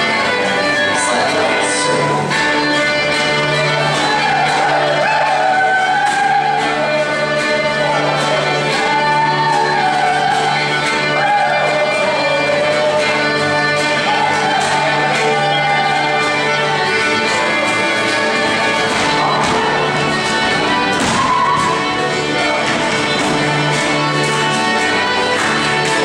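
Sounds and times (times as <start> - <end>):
fiddle playing dance tune: 0.0 - 26.0
strummed string accompaniment: 0.0 - 26.0.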